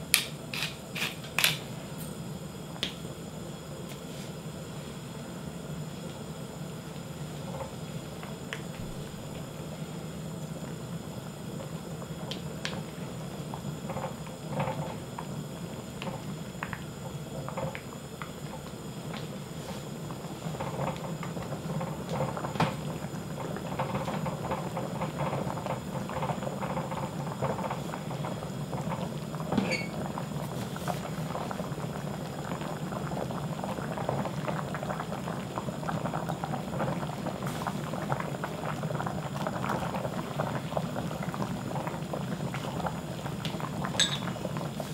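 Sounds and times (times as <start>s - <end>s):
broth bubbling in a pot: 1.6s - 44.9s.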